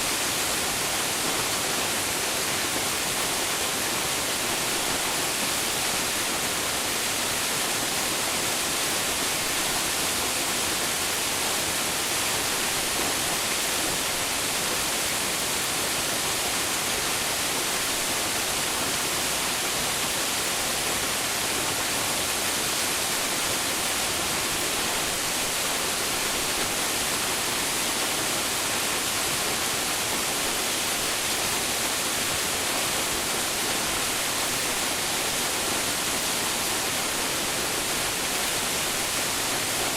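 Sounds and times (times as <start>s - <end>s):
waterfall crashing into pool: 0.0s - 39.9s.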